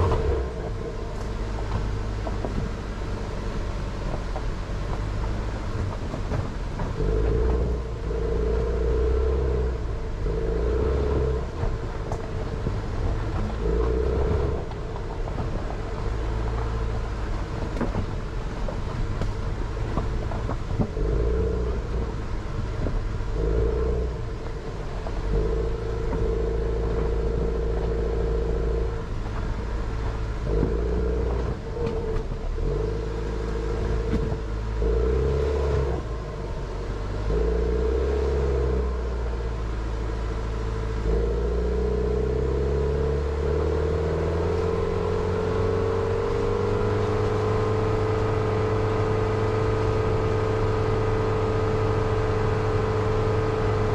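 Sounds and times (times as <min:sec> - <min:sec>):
car engine revving: 0:00.0 - 0:53.9
suspension clattering: 0:00.0 - 0:53.9.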